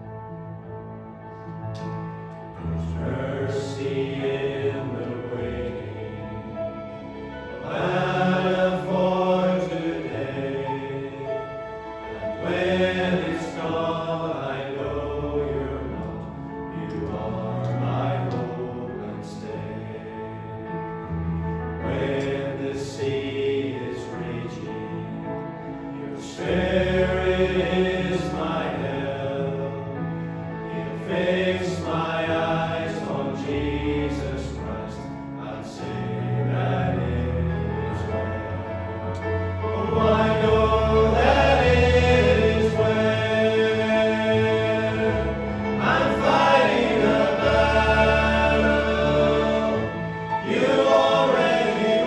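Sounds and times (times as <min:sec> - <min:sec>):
piano accompaniment: 0:00.0 - 0:52.0
men's choir singing: 0:02.6 - 0:21.0, 0:21.7 - 0:52.0.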